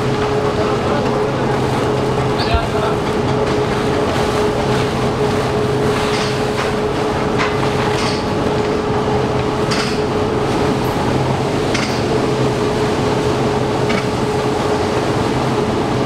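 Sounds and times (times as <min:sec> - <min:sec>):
factory machinery humming and whining: 0:00.0 - 0:16.0.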